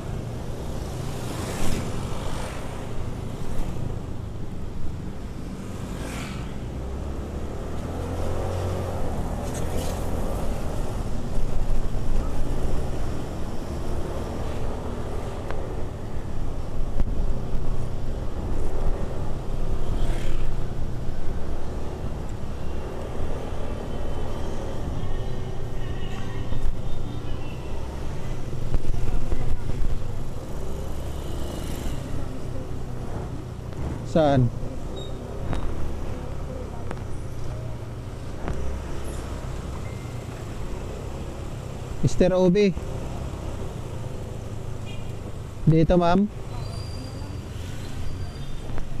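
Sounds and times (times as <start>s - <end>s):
road noise: 0.0s - 49.0s.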